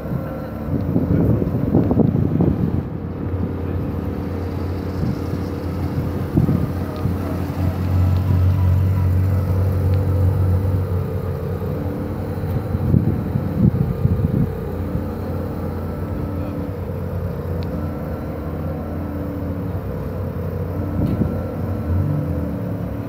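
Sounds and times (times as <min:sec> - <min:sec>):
car engine driving past: 0:00.0 - 0:23.0.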